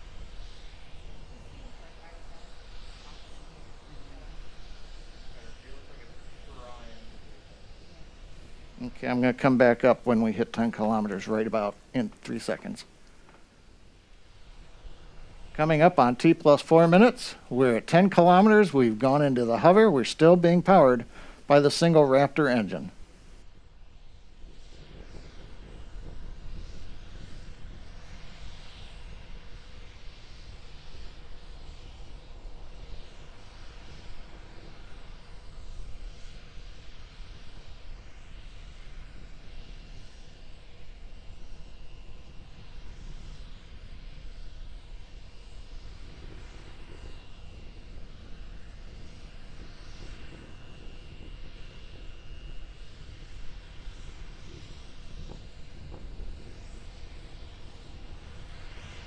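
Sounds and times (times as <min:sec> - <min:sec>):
distant rocket engine roar: 0:00.0 - 0:59.0.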